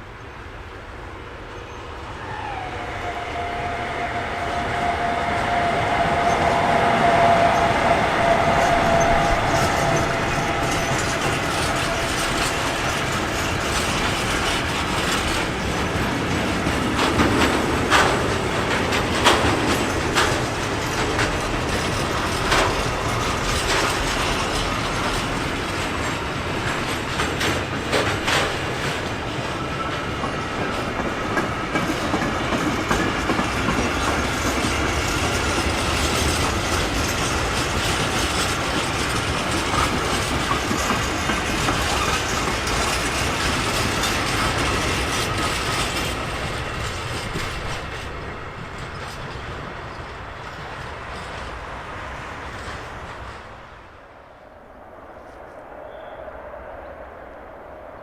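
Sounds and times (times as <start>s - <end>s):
train wheels clacking over rail joints: 4.3s - 53.7s.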